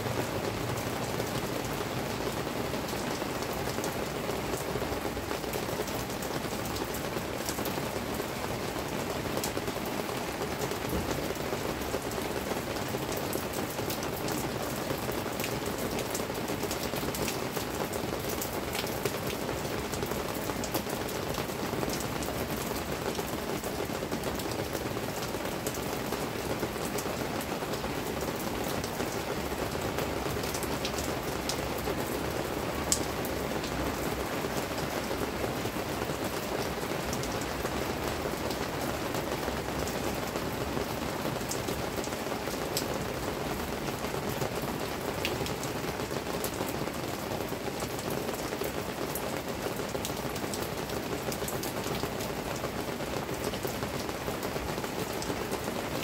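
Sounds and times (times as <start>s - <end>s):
raindrops tapping close by: 0.0s - 56.0s
steady rain: 0.0s - 56.0s.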